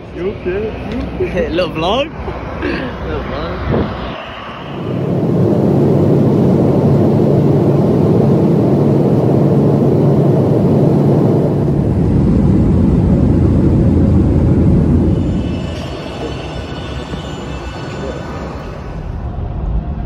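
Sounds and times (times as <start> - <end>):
jet engine rush in cabin: 0.0 - 20.0
low hum: 0.0 - 20.0.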